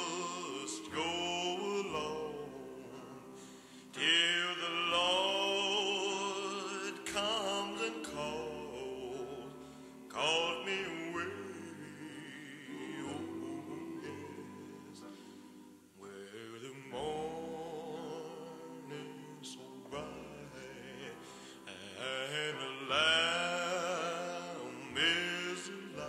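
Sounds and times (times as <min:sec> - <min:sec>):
person singing with vibrato: 0:00.0 - 0:26.0
sustained musical accompaniment: 0:00.0 - 0:26.0.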